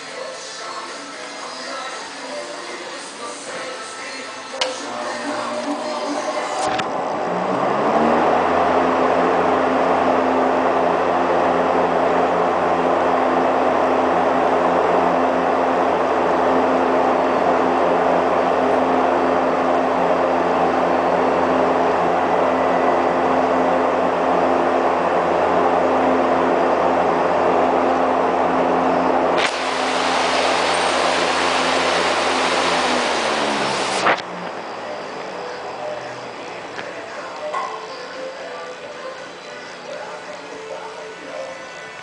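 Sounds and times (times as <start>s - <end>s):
exhaust fan rushing air: 0.0s - 41.3s
low motor hum: 4.6s - 41.6s.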